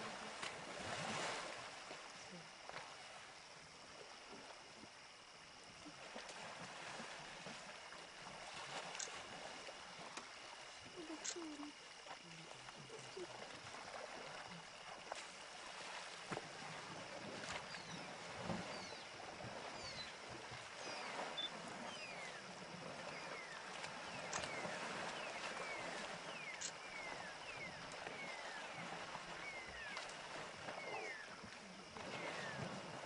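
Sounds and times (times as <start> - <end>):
water sloshing and splashing: 0.0 - 33.0.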